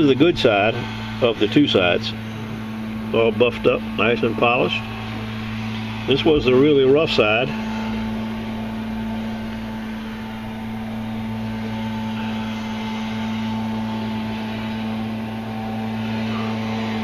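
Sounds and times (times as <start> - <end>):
even whirring: 0.0 - 17.0
mechanical hum: 0.0 - 17.0.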